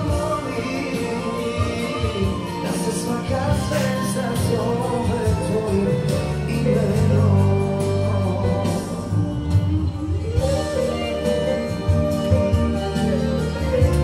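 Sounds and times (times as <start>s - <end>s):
boy singing into microphone: 0.0s - 14.0s
instrumental accompaniment: 0.0s - 14.0s.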